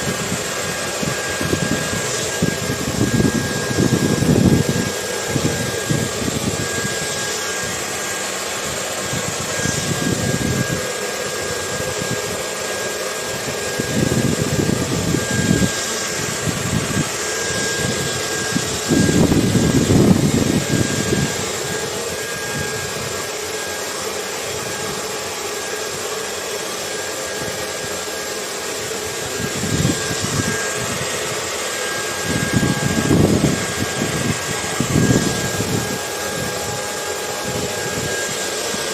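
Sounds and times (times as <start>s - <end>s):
wind rumbling in gusts: 0.0s - 12.5s, 13.3s - 23.4s, 28.8s - 38.9s
hair dryer running: 0.0s - 38.9s.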